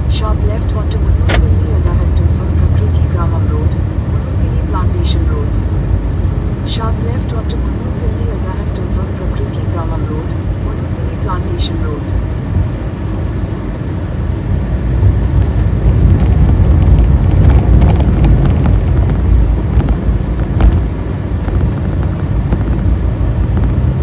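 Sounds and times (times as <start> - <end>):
vehicle road rumble: 0.0 - 24.0.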